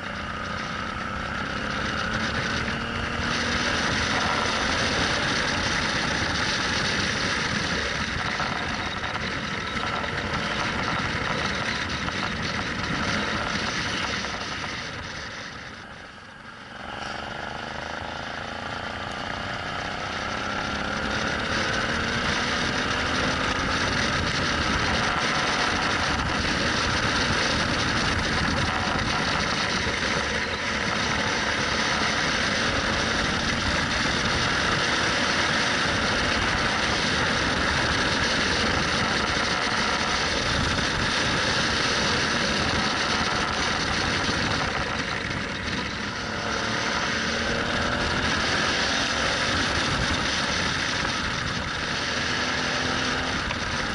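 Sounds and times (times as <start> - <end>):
motorcycle engine accelerating: 0.0 - 53.9
wind rushing over microphone: 0.0 - 53.9.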